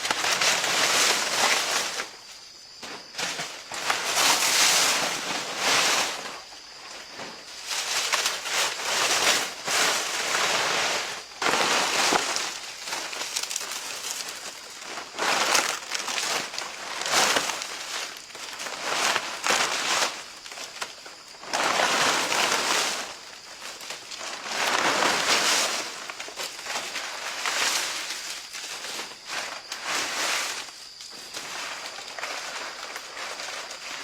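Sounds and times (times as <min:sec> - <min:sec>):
leaves and branches rustling: 0:00.0 - 0:34.0.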